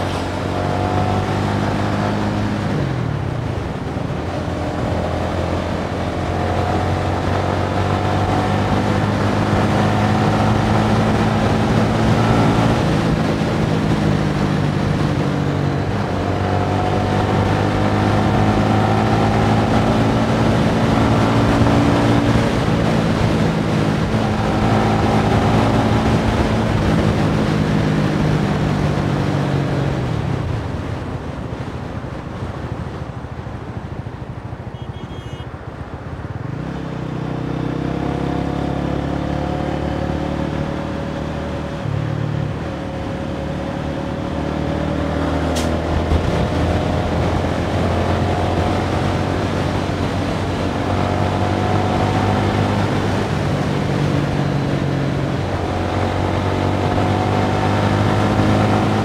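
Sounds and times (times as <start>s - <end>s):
wind rushing over microphone: 0.0s - 34.8s, 35.5s - 59.0s.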